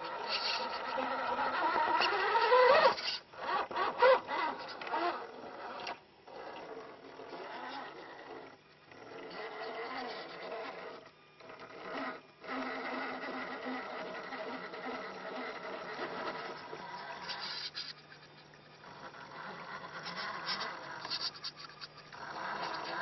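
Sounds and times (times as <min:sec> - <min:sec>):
toy car electric motor whining: 0:00.0 - 0:23.0.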